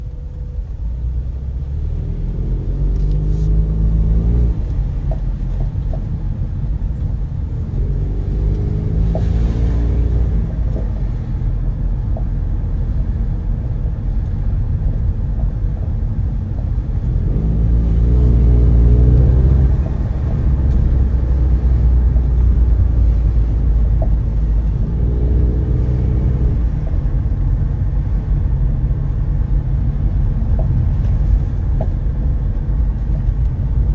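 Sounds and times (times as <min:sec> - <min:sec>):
car engine and road rumble: 0:00.0 - 0:33.9.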